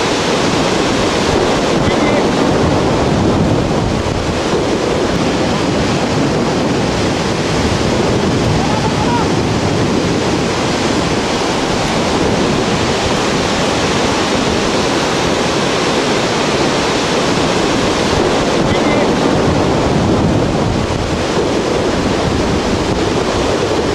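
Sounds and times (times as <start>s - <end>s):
whitewater rapids rushing: 0.0s - 23.9s
wind on microphone: 0.0s - 23.9s.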